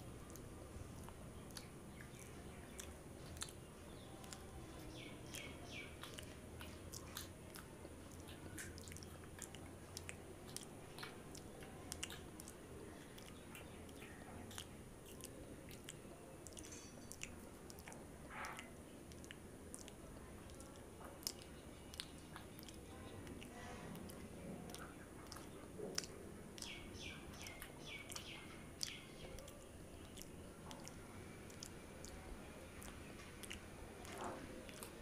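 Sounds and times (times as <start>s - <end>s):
person chewing bread: 0.0s - 35.0s.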